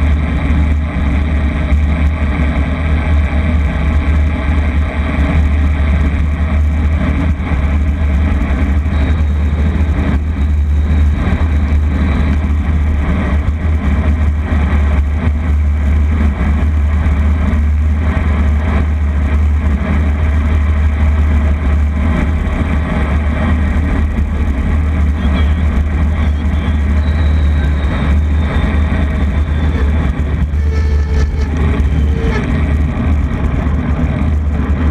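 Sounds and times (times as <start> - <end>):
heavy low rumble: 0.0 - 34.9
vehicle engine and road noise: 0.0 - 34.9.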